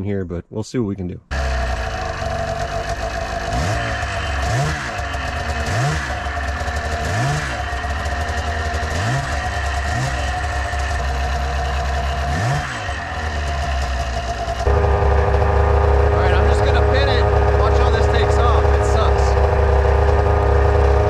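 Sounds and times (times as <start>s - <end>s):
two-stroke engine idling and revving: 1.3s - 21.0s.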